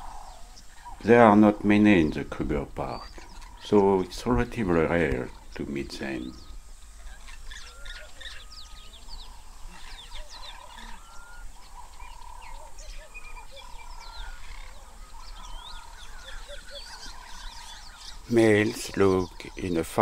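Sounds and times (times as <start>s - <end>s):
birds chirping and whistling: 0.0s - 20.0s.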